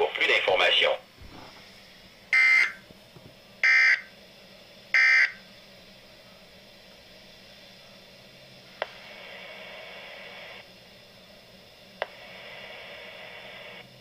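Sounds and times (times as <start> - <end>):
radio hiss: 0.0 - 2.9, 3.6 - 14.0.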